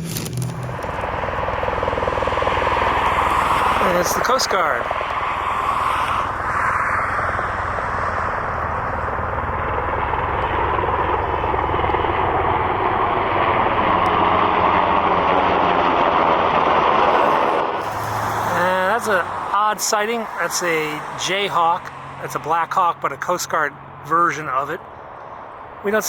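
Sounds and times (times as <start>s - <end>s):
helicopter flying over: 0.0s - 26.0s.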